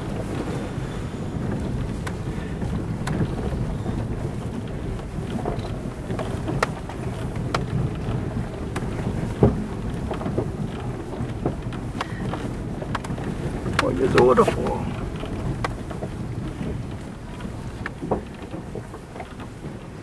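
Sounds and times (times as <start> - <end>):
vehicle driving on gravel: 0.0 - 20.0
knocks and clicks from rough surface: 1.5 - 20.0.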